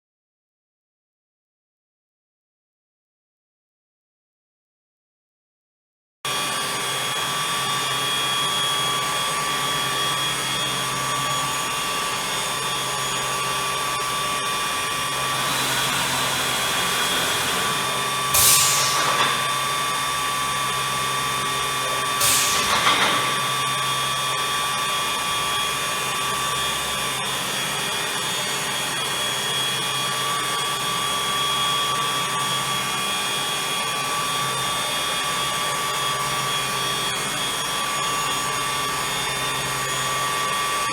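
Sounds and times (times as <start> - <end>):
woodworking machine droning: 6.3 - 40.9.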